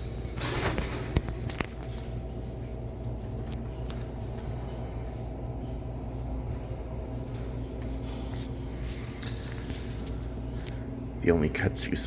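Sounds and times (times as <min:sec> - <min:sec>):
vending machine humming: 0:00.0 - 0:12.0.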